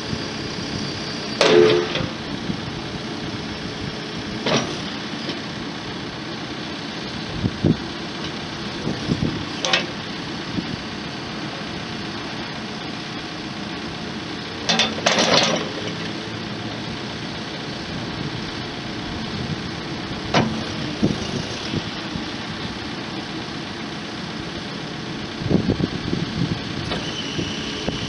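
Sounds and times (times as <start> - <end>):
diesel engine idling: 0.0 - 14.7, 15.6 - 28.0.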